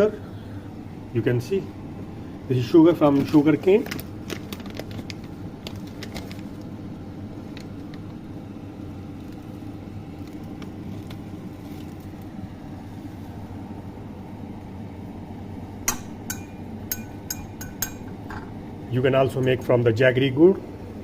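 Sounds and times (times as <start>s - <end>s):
pot of water boiling: 1.7s - 18.9s.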